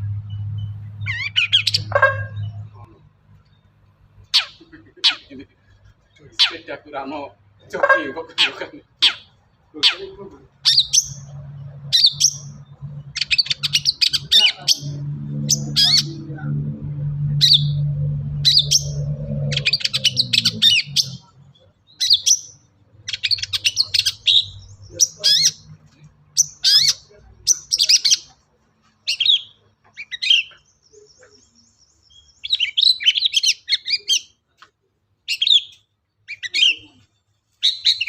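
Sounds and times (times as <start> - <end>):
bird trill: 0.0 - 2.8, 3.4 - 6.8, 7.6 - 16.3, 17.3 - 28.4, 29.0 - 34.4, 35.3 - 38.0
bird chirping and twittering: 0.0 - 34.4, 35.3 - 38.0.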